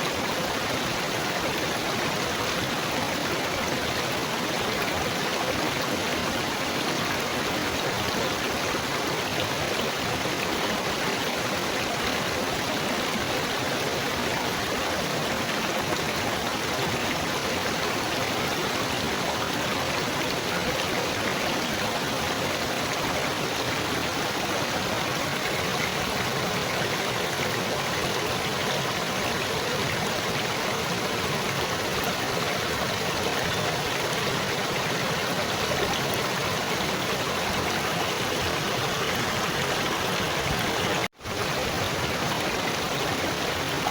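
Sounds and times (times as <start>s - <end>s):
water babbling over stones: 0.0s - 43.9s.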